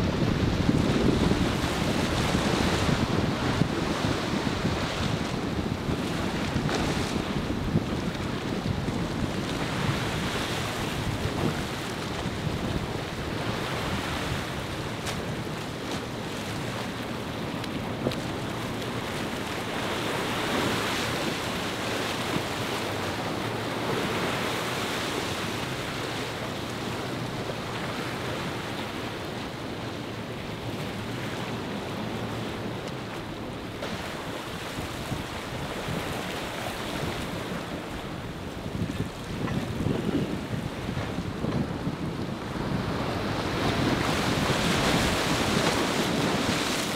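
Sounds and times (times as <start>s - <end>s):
choppy water and surf rushing: 0.0s - 46.9s
wind buffeting microphone: 0.0s - 46.9s.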